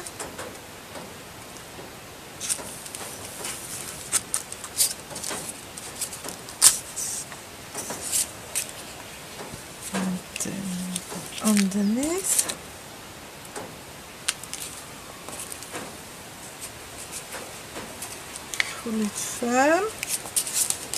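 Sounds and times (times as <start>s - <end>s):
scratchy paper rustles and clicks: 2.4s - 12.6s, 14.3s - 20.9s.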